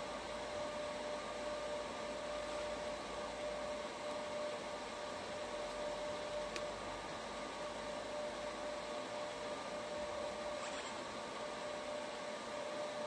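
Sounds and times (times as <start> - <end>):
constant machine hum: 0.0 - 13.0
laser machine fan hiss: 0.0 - 13.0.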